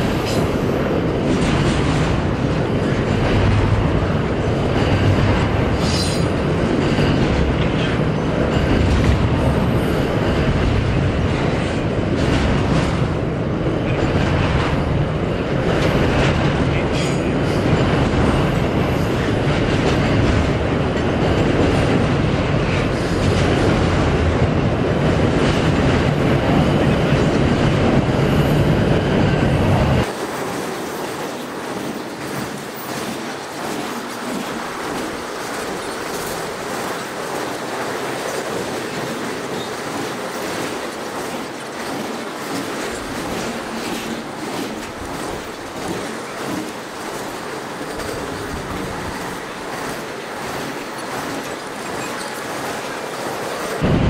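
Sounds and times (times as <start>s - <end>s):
wheels clicking over rail joints: 0.0s - 28.4s, 30.0s - 54.0s
freight train rumbling on rails: 0.0s - 54.0s.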